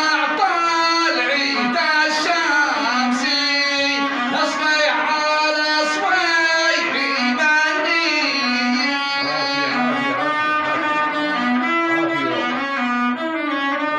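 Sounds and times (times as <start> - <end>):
bowed fiddle melody: 0.0 - 13.9.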